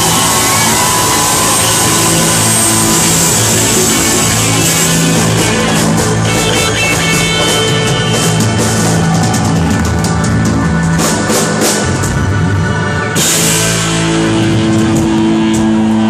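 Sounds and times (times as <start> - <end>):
band playing loudly: 0.0 - 16.0.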